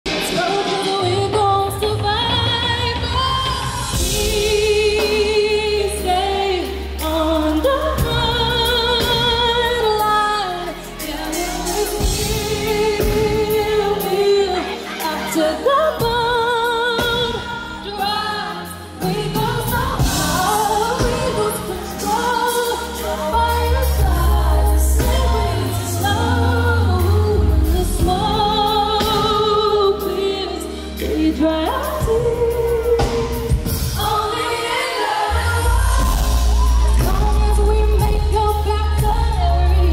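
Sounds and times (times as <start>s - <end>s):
band with deep bass: 0.1s - 39.9s
woman singing: 0.1s - 39.9s.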